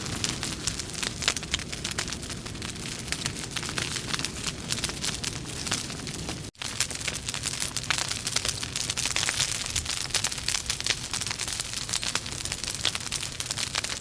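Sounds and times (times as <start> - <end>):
logs crackling in a fireplace: 0.0 - 14.0.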